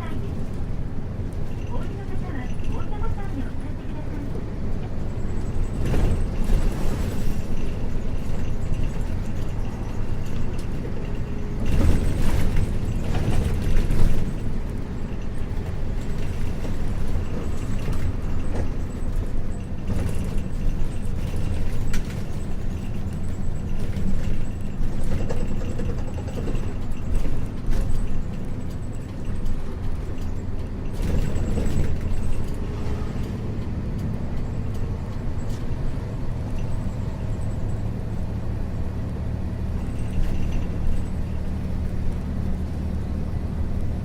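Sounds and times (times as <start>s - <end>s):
bus engine drone: 0.0s - 44.0s
rattles and knocks from bus body: 0.0s - 44.0s.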